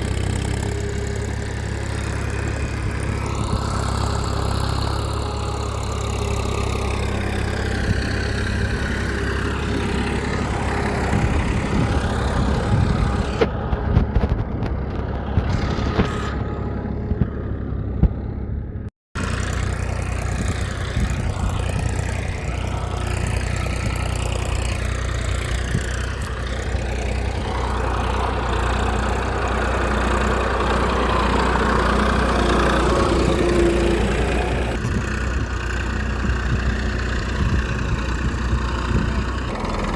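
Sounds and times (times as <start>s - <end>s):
mechanical running hum: 0.0s - 39.9s.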